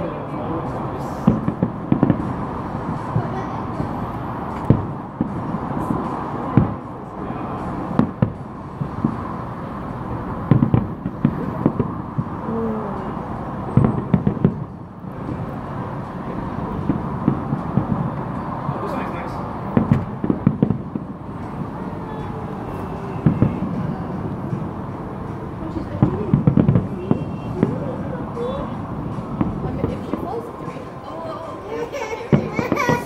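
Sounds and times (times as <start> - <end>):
fireworks bangs: 1.0 - 13.0, 13.7 - 24.7, 25.4 - 30.9, 31.7 - 33.0.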